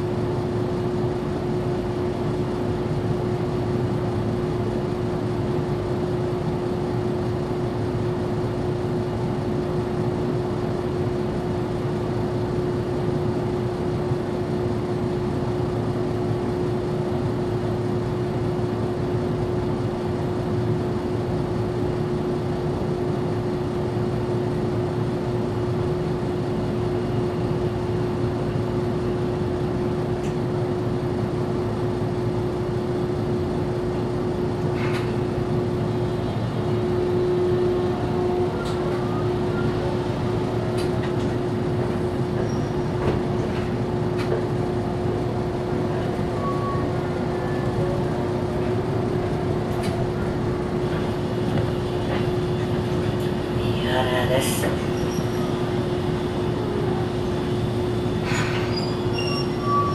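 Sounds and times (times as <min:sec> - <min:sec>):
tram cabin hum: 0:00.0 - 0:59.9.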